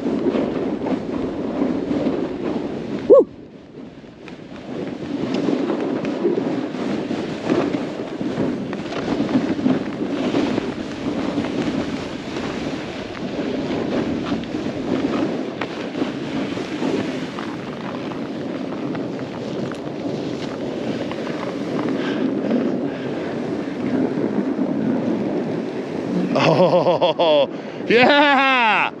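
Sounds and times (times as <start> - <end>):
snowboard scraping through snow: 0.0 - 28.7
wind rushing over microphone: 0.0 - 29.0.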